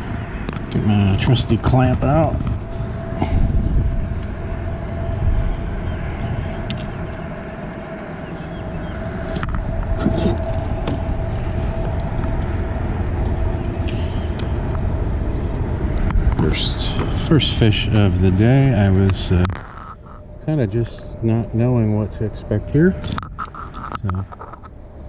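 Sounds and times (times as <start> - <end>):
faint steady hum: 0.0 - 25.0
wind buffeting microphone: 0.0 - 25.0.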